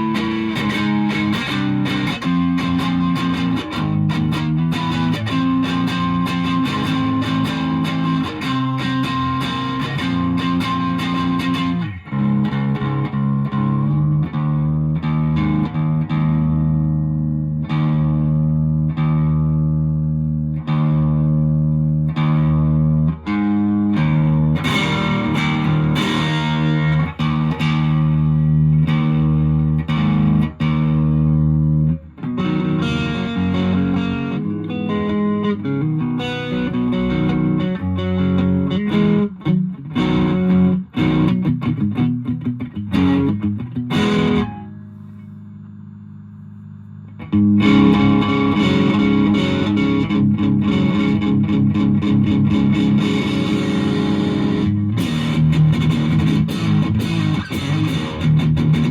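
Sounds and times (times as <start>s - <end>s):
distorted electric guitar: 0.0s - 58.9s
faint amp hum: 0.0s - 58.9s.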